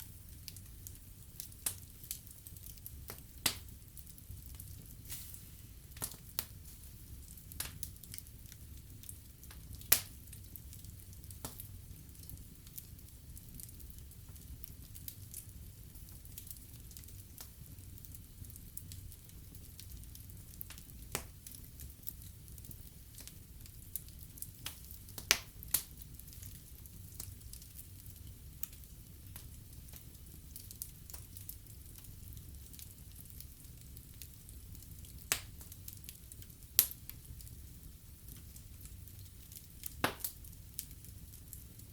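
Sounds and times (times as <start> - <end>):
fire crackling: 0.0 - 41.9
low rumble of flames: 0.0 - 41.9.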